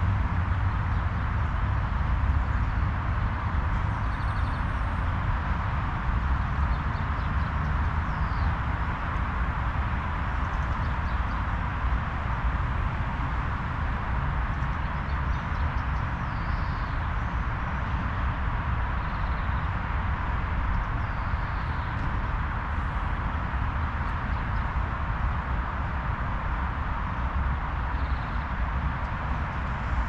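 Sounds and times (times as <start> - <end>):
low outdoor rumble: 0.0 - 30.0.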